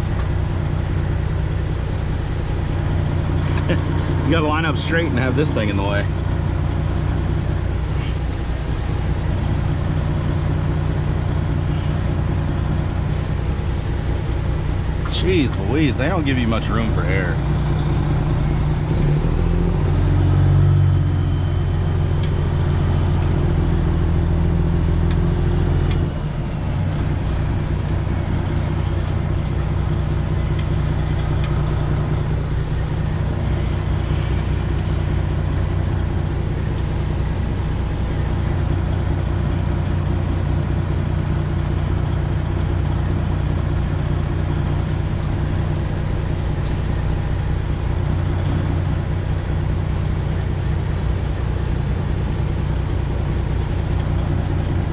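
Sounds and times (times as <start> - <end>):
truck diesel engine idling: 0.0 - 54.9.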